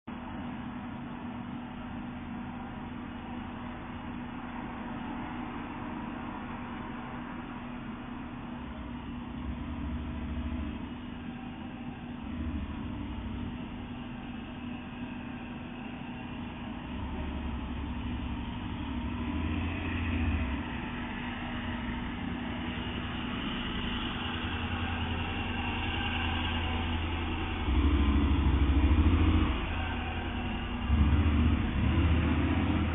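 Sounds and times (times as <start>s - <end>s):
car engine running: 0.1s - 32.9s.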